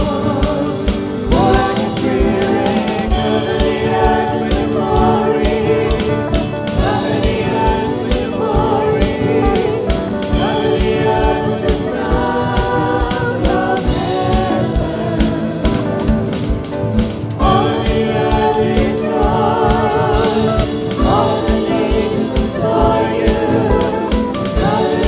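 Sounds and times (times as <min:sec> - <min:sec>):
choir singing: 0:00.0 - 0:16.6, 0:17.4 - 0:25.0
instrumental accompaniment with beat: 0:00.0 - 0:25.0.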